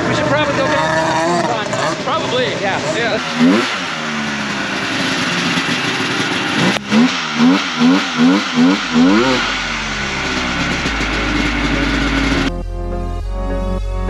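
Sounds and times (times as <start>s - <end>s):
snowmobile engine revving: 0.0s - 12.5s
snowmobile engine idling: 0.0s - 13.0s.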